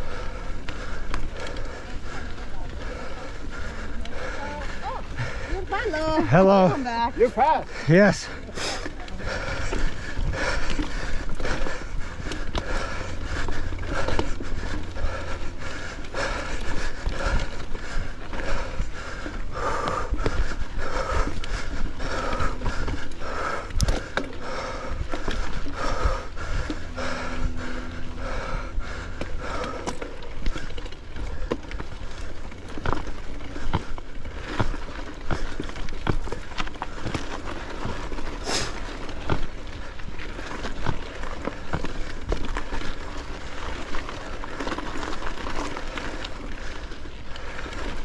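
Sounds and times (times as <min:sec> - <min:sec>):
bike rattling and knocking: 0:00.0 - 0:48.0
rider breathing hard: 0:00.0 - 0:48.0.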